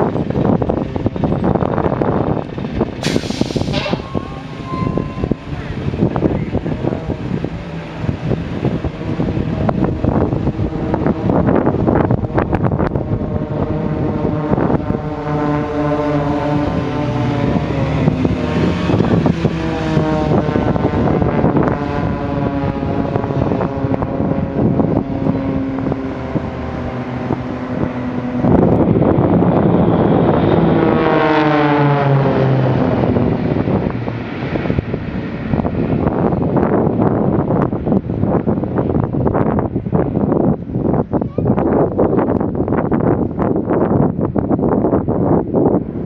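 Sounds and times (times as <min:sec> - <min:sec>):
propeller planes droning overhead: 0:00.0 - 0:46.0
wind buffeting microphone: 0:00.0 - 0:46.0.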